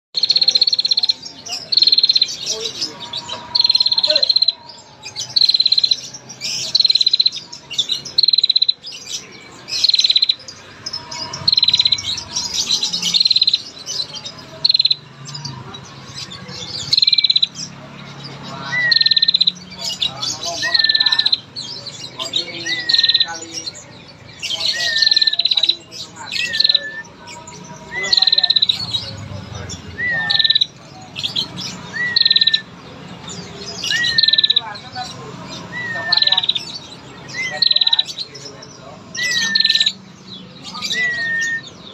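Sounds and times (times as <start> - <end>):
bird ticking trills: 0.1 - 15.6, 16.3 - 38.4
soft bird chirps: 0.1 - 41.9.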